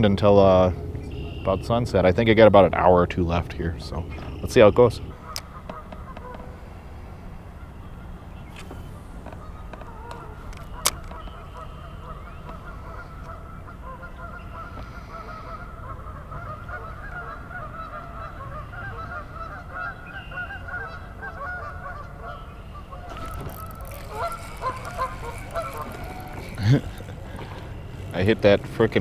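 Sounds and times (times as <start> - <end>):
geese honking: 0.7 - 29.0.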